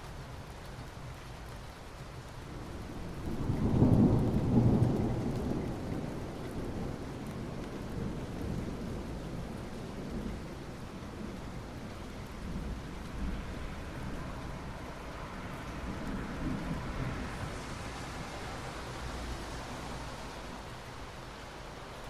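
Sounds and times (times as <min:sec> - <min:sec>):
rain on asphalt: 0:00.0 - 0:22.0
distant thunder rumble: 0:02.4 - 0:20.6.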